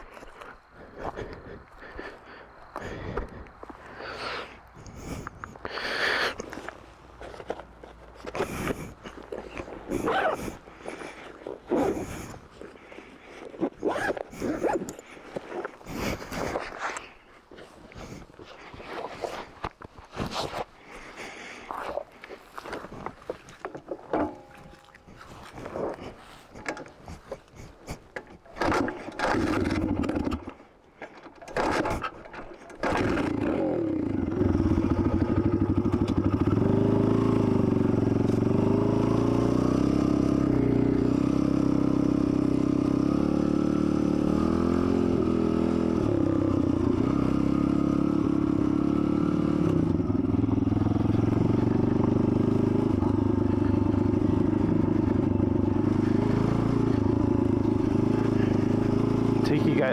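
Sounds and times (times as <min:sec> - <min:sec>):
dirt bike engine running: 0:00.0 - 0:30.7, 0:31.3 - 0:59.9.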